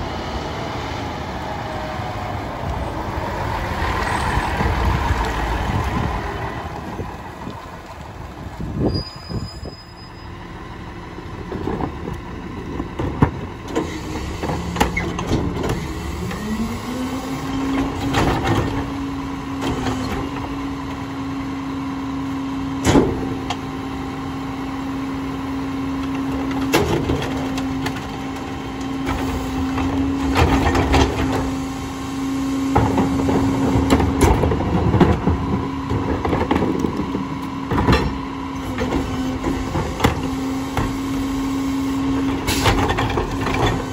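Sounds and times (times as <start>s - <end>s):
garbage truck engine running: 0.0s - 43.9s.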